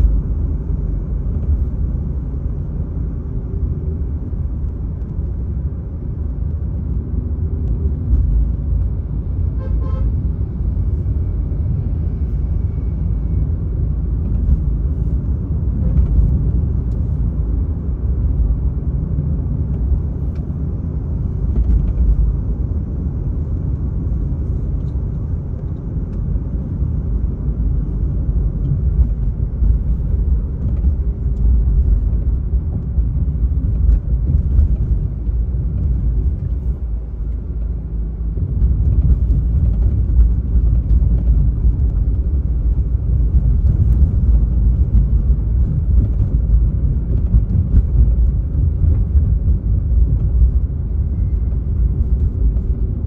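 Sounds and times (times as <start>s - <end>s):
car driving at road speed: 0.0s - 53.0s.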